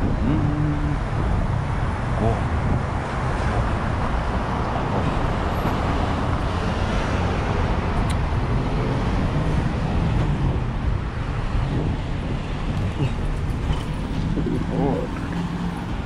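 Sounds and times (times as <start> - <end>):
cars passing on busy road: 0.0 - 16.0.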